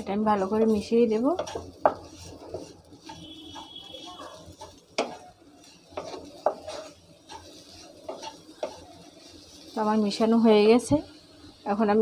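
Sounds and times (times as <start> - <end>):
spatula scraping in frying pan: 0.0 - 11.6.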